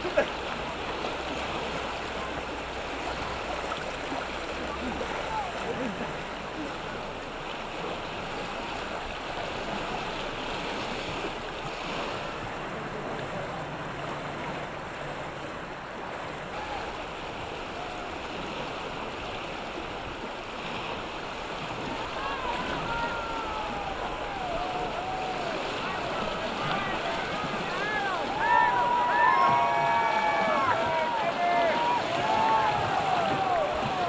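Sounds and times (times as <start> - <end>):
river rapids rushing: 0.0 - 34.0.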